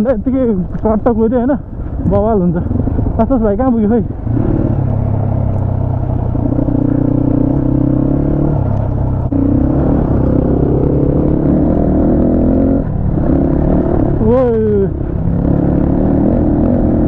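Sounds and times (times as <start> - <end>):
motorcycle engine running: 0.8 - 17.0.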